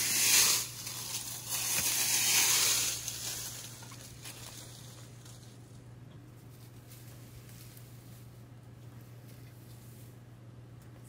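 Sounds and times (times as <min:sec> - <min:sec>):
dry overgrowth rustling and scraping: 0:00.0 - 0:05.8, 0:06.4 - 0:10.3.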